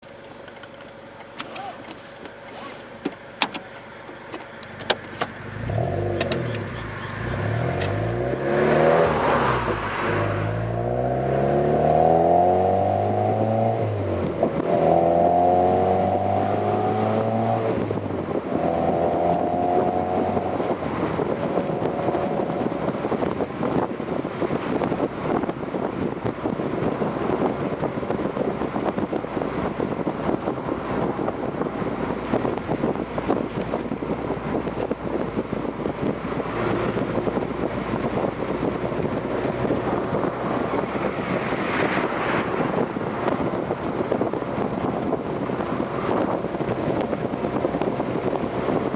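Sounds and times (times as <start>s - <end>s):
wind and road noise: 0.0s - 48.9s
car engine accelerating: 0.1s - 48.9s.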